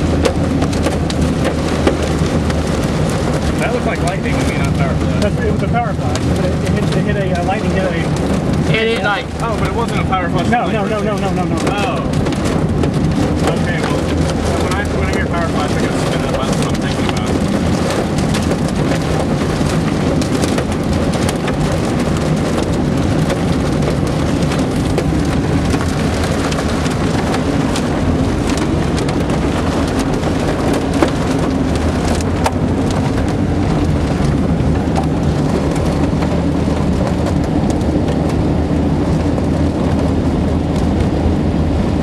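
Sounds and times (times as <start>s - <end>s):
rain and hail on car roof: 0.0s - 42.0s
road and engine rumble: 0.0s - 42.0s.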